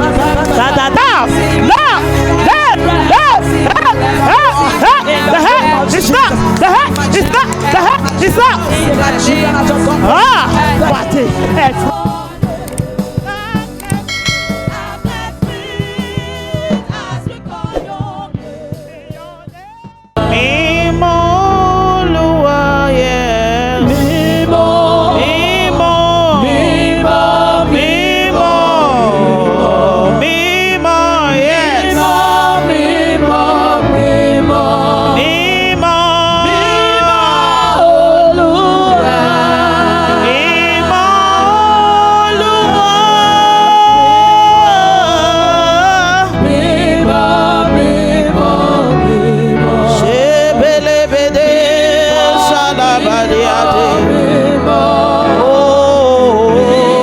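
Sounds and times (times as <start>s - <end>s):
gospel singing with vibrato: 0.0s - 57.0s
sustained instrumental accompaniment: 0.0s - 57.0s.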